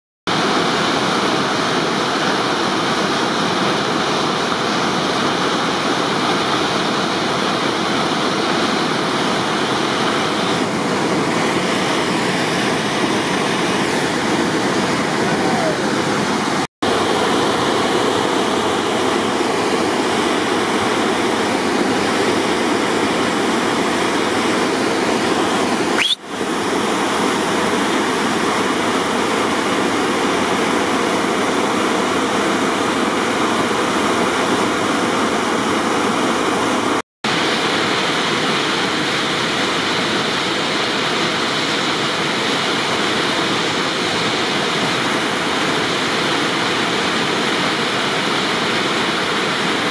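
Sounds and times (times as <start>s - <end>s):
whitewater rapid rushing: 0.3s - 49.9s.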